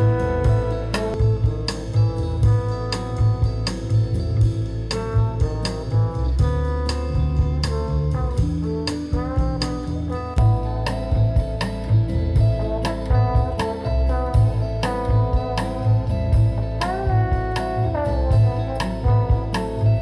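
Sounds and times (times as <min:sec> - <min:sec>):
instrumental music with heavy bass beat: 0:00.0 - 0:20.0.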